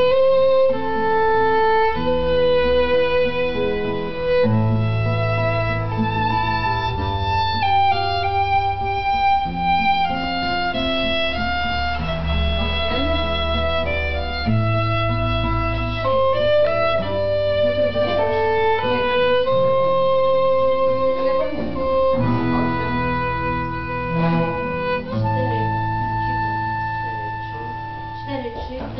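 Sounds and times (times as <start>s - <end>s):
low sustained bass notes: 0.0s - 28.9s
violin playing slow melody: 0.0s - 28.9s.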